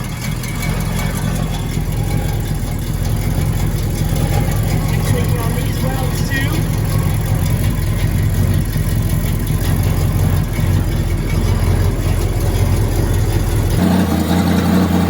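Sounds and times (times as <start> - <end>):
vee eight engine idling: 0.0 - 15.0.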